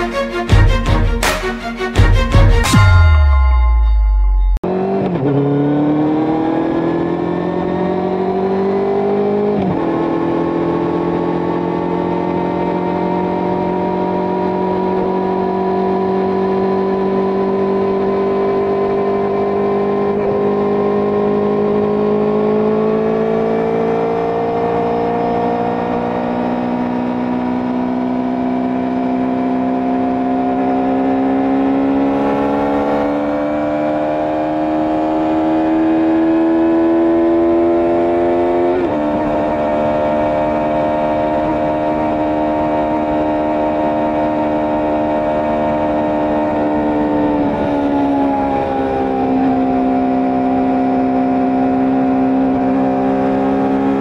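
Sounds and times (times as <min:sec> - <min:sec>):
motorcycle engine accelerating: 0:03.4 - 0:54.0.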